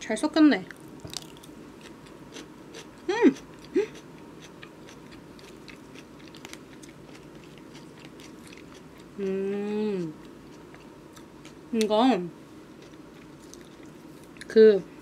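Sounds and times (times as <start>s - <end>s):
crunchy chewing of salad: 0.7s - 14.6s.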